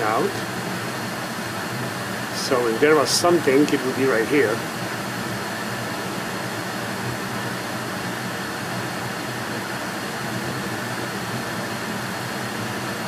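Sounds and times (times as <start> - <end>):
hot air rushing from heater: 0.0 - 13.0
low fan hum: 0.0 - 13.0.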